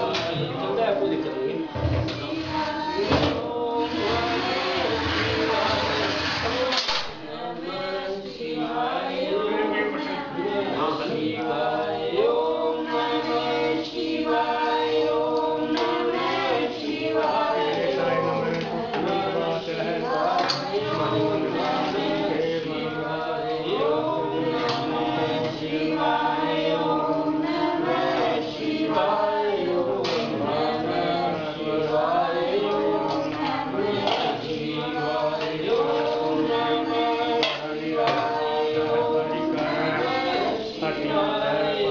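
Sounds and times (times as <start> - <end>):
group chanting in unison: 0.0 - 41.9.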